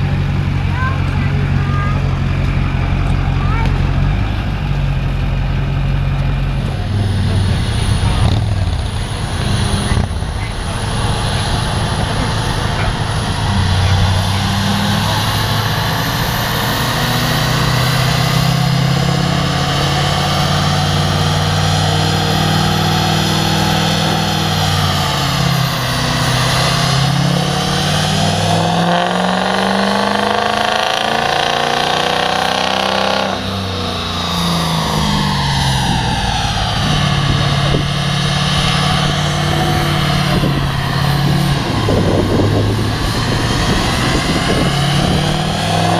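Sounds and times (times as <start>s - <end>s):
diesel truck engine under load: 0.0s - 45.9s
high whine: 0.0s - 45.9s.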